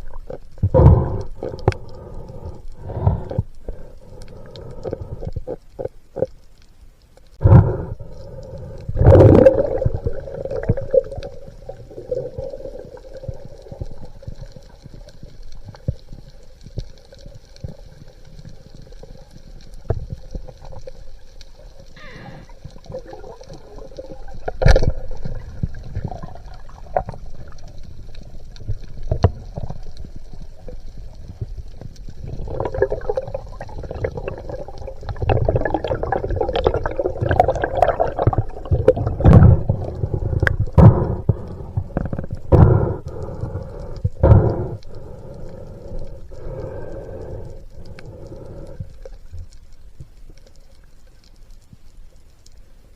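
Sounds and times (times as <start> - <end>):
underwater water gurgling: 0.0 - 52.9.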